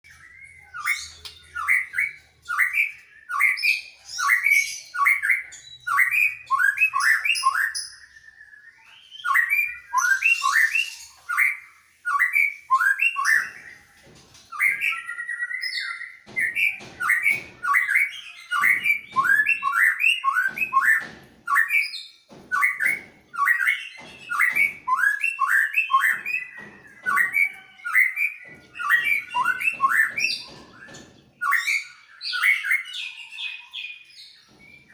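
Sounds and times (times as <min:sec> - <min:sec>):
birds singing: 0:00.0 - 0:34.9.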